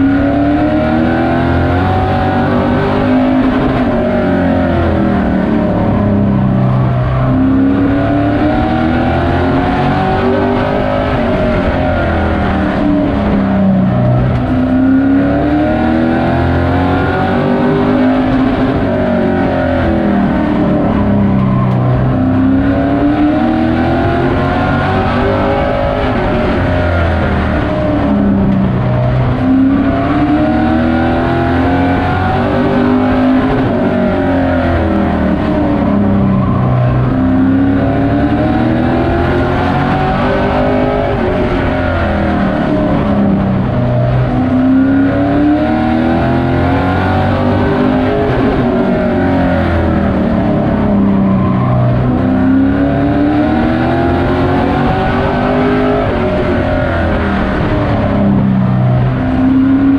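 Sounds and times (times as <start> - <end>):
truck engine revving under load: 0.0 - 59.9.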